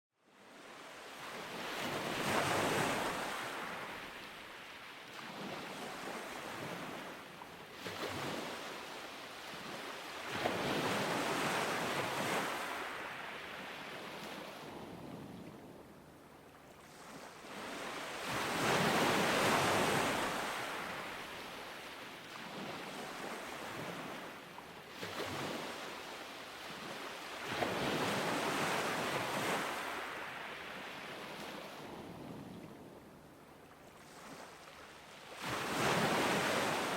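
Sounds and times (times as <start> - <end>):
ocean waves breaking on beach: 0.3 - 36.9.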